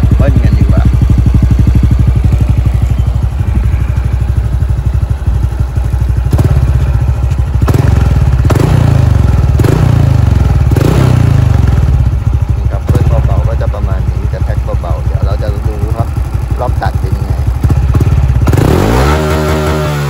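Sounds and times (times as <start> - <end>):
engine throttle blips: 0.0 - 20.0
motorcycle engine idling: 0.0 - 20.0.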